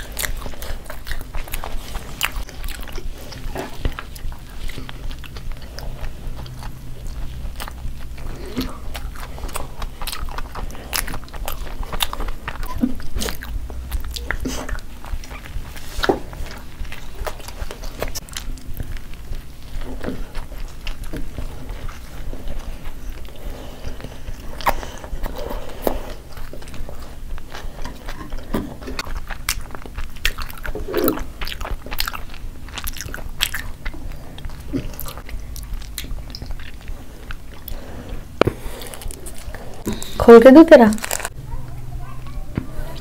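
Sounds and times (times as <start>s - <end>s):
people chewing pizza: 0.0s - 43.0s.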